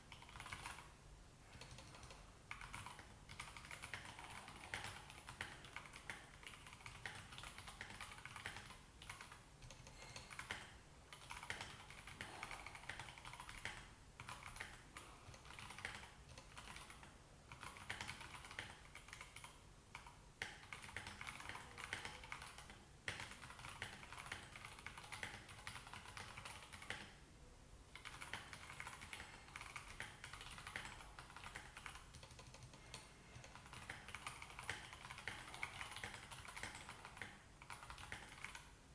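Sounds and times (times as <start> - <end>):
mechanical keyboard typing: 0.1 - 0.9, 1.5 - 27.2, 27.9 - 38.7.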